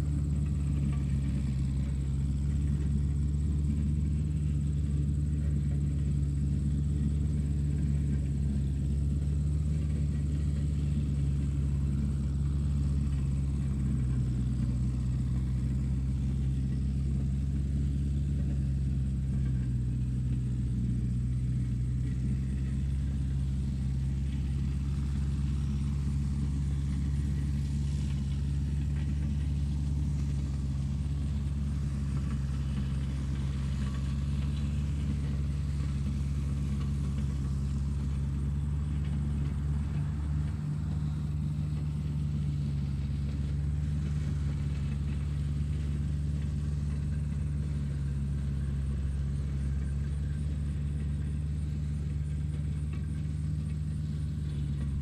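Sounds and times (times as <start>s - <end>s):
low mechanical rumble: 0.0s - 55.0s.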